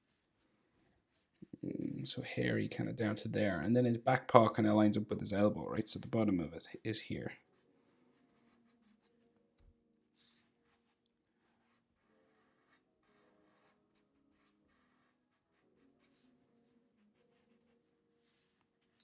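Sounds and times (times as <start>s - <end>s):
marker scratching on paper: 0.0s - 4.6s, 5.8s - 9.3s, 10.0s - 19.0s.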